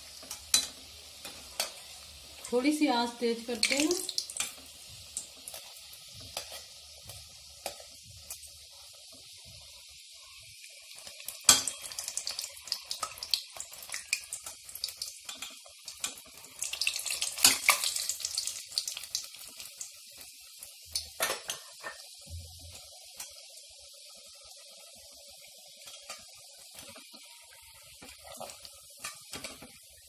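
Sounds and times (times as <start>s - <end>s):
dough sizzling in hot oil: 0.0s - 30.0s.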